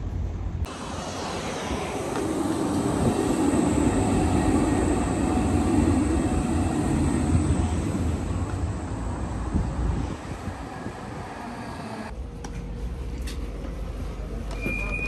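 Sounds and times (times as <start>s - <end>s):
tram wheels on rails: 0.6s - 15.0s.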